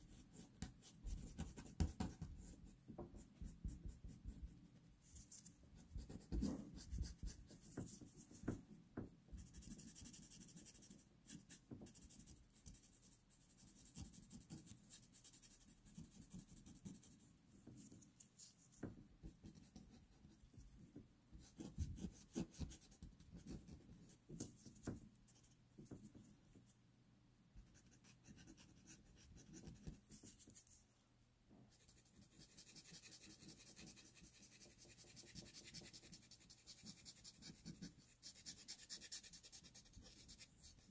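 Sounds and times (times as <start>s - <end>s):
pastel pencil scratching on paper: 0.0s - 20.5s, 21.3s - 26.2s, 27.6s - 30.8s, 31.7s - 40.9s.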